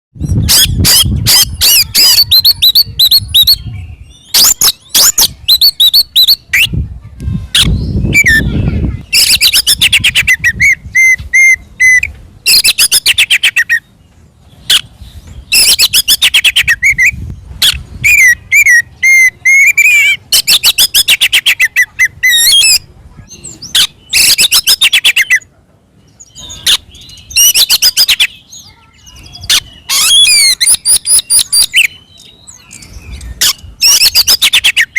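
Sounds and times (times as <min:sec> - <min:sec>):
bird singing rapid phrases: 0:00.2 - 0:34.9.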